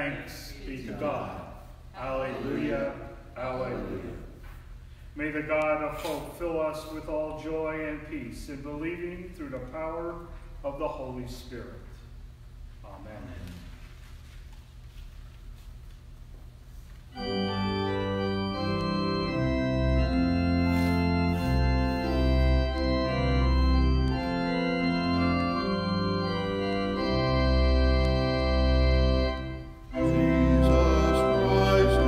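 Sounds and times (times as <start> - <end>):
organ playing sustained chords: 0.0 - 4.6, 5.2 - 11.9, 17.1 - 32.0.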